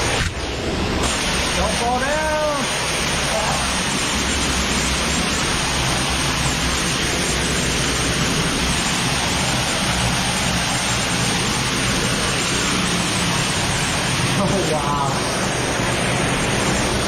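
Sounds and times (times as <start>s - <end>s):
waterfall rushing: 1.0s - 17.0s.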